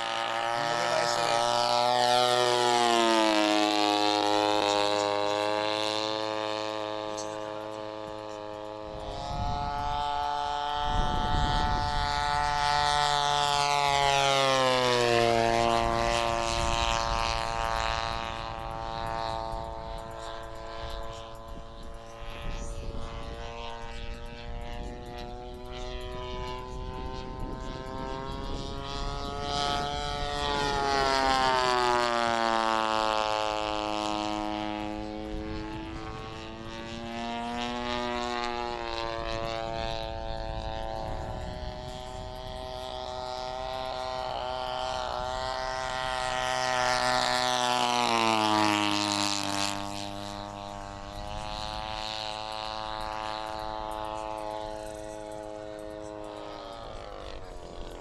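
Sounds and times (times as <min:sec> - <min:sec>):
propeller plane flying overhead: 0:00.0 - 0:58.0.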